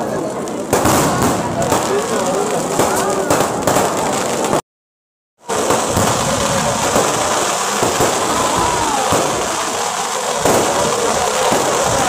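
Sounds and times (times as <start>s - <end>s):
fireworks popping and crackling: 0.0s - 4.6s, 5.4s - 12.0s.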